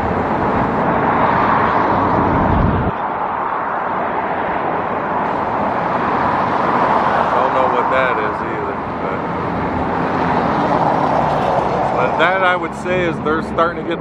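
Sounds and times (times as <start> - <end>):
passing vehicle rumble: 0.0 - 14.0
road traffic noise: 0.0 - 14.0.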